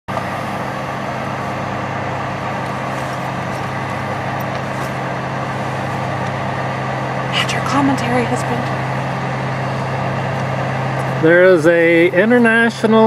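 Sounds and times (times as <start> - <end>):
farm machinery engine droning: 0.1 - 13.0.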